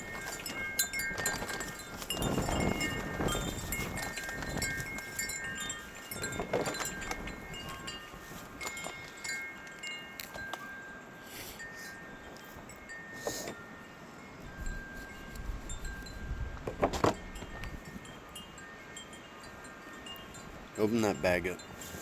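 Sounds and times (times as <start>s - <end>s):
wind chimes ringing: 0.0s - 22.0s.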